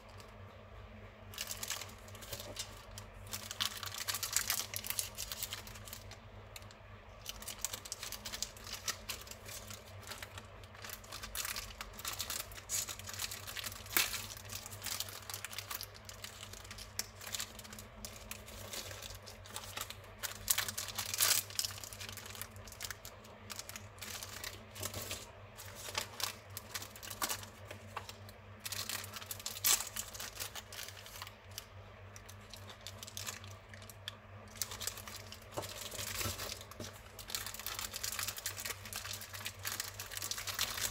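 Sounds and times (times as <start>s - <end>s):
faint low hum: 0.0s - 40.9s
paper wrappers crinkling: 1.3s - 40.9s.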